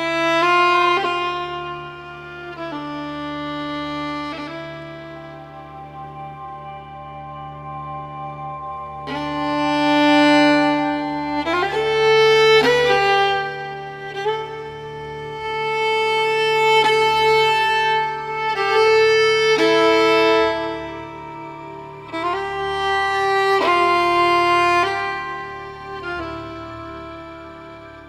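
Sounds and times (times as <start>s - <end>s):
bowed string melody: 0.0s - 28.0s
low drone: 0.0s - 28.0s.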